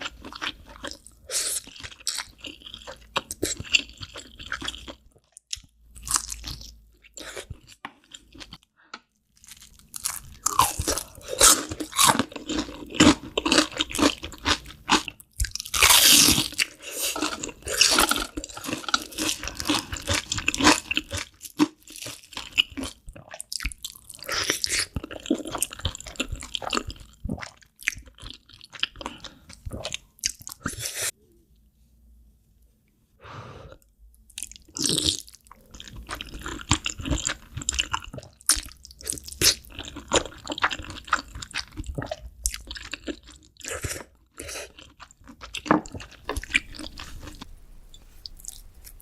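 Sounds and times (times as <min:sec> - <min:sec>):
person chewing crunchy food: 0:00.0 - 0:31.2, 0:33.7 - 0:49.0.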